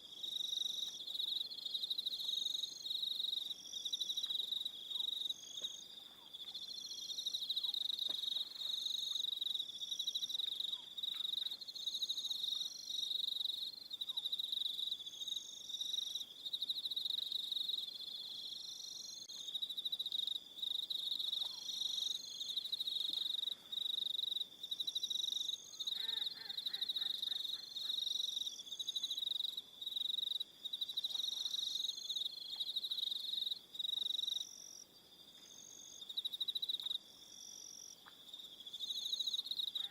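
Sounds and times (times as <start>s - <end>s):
crickets chirping in pulsed trills: 0.0s - 39.9s.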